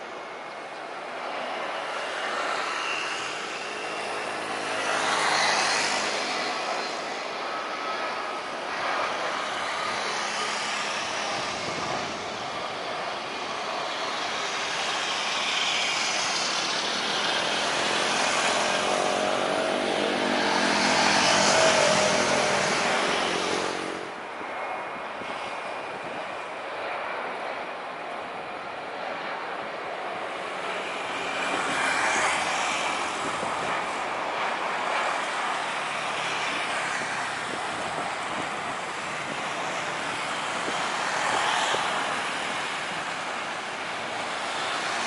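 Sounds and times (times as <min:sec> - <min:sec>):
jet engine whine: 0:00.0 - 0:45.0
jet engines rushing: 0:00.0 - 0:45.0.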